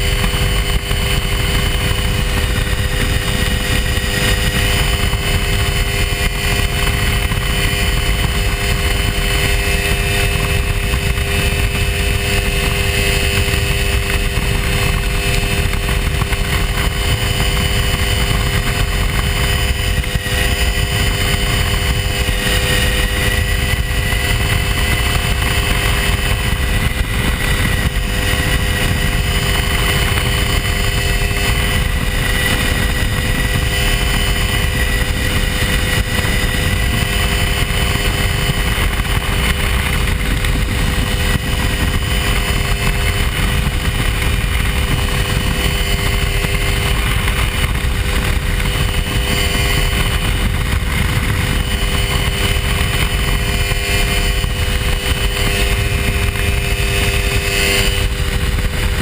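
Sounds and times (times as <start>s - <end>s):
light airplane engine droning: 0.0s - 59.0s.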